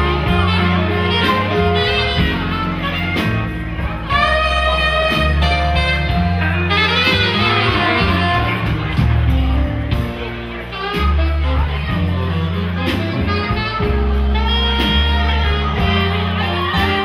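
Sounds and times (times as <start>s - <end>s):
plucked double bass: 0.0s - 17.0s
saxophone melody: 0.0s - 17.0s.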